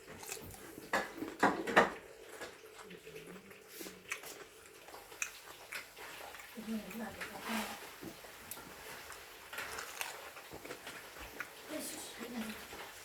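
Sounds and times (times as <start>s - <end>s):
crunching while eating: 0.0s - 13.0s.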